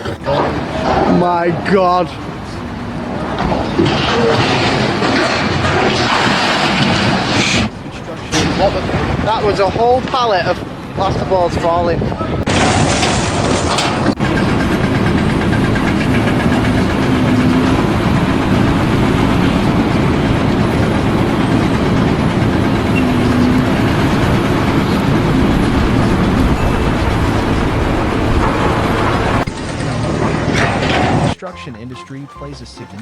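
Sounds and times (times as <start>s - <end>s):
large engine running: 0.0s - 33.0s.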